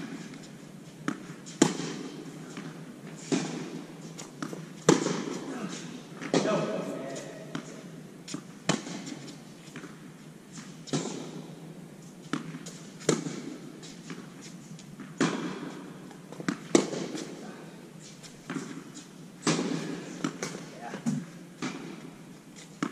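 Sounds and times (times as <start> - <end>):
tennis ball bouncing: 0.0 - 5.5, 6.2 - 6.8, 7.4 - 11.5, 12.3 - 17.3, 18.4 - 22.9
tennis racquets striking ball: 0.0 - 11.6, 12.3 - 14.3, 14.9 - 17.4, 18.4 - 22.9.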